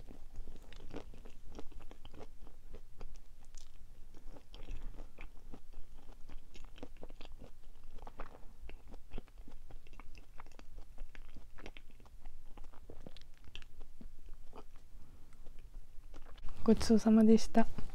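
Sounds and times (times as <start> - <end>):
chewing soft sweet: 0.0 - 16.7.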